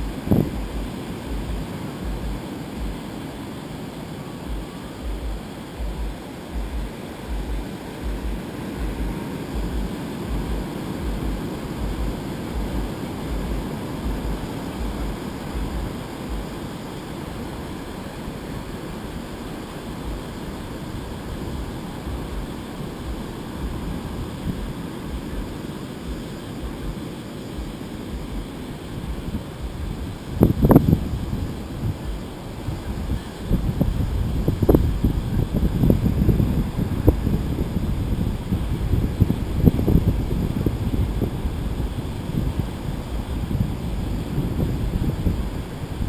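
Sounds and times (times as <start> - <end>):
surf breaking on beach: 0.0 - 46.0
wind buffeting microphone: 0.0 - 46.0.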